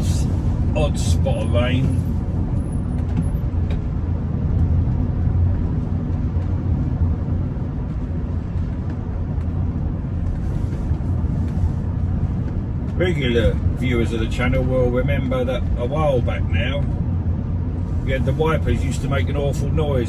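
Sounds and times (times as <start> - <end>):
car cabin rumble: 0.0 - 20.0
tyres on wet road: 0.0 - 20.0.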